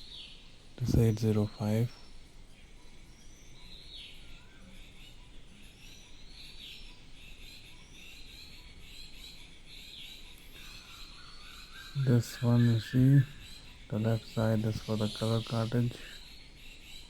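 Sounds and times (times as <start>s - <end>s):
faint bird chirping: 0.0s - 17.0s
low steady hiss: 0.0s - 17.0s.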